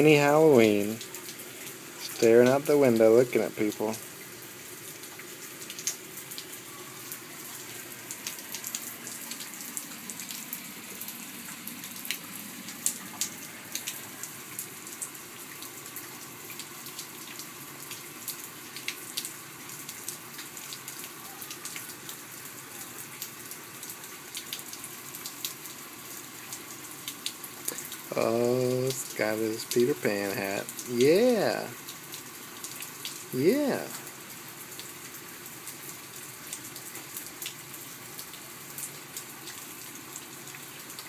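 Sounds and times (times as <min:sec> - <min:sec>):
raindrops ticking close: 0:00.0 - 0:41.0
steady rain: 0:00.0 - 0:41.0.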